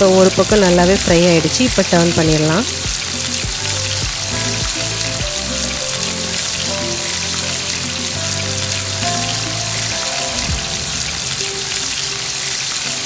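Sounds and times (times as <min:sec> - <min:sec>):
background music: 0:00.0 - 0:13.0
chicken sizzling in hot oil: 0:00.0 - 0:13.0.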